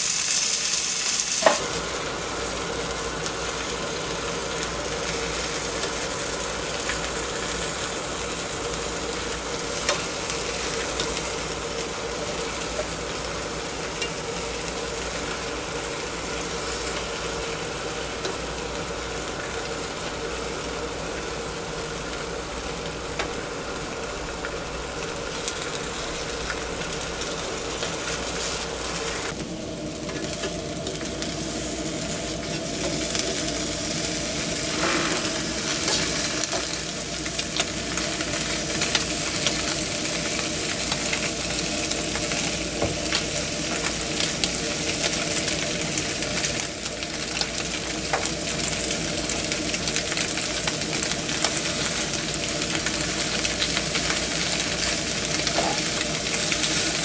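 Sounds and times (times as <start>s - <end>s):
bread sizzling in a frying pan: 0.0s - 57.0s.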